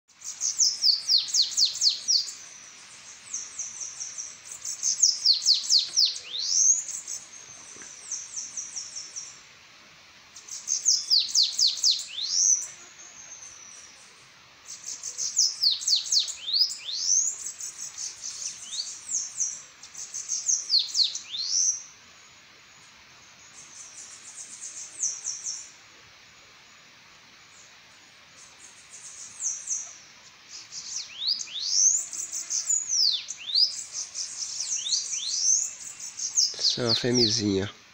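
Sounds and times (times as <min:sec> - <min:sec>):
bird song with thin trill: 0:00.1 - 0:09.4, 0:10.4 - 0:22.0, 0:22.8 - 0:25.8, 0:28.3 - 0:37.7.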